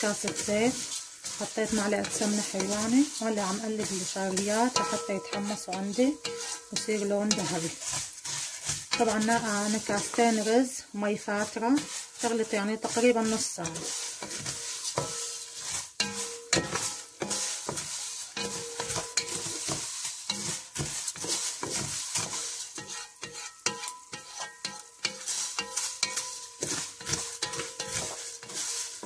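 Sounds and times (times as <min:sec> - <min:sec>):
vermicelli sizzling in oil: 0:00.0 - 0:29.0
wooden spatula scraping a pot: 0:00.0 - 0:29.0.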